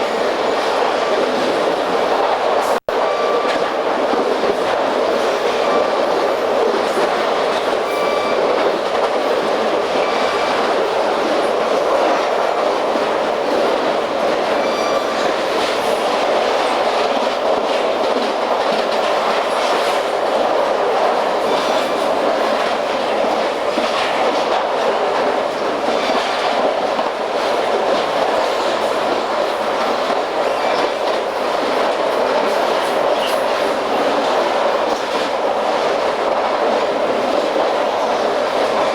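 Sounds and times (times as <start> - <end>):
train wheels rumbling on rails: 0.0 - 38.9
wheels clickety-clack: 3.4 - 38.9.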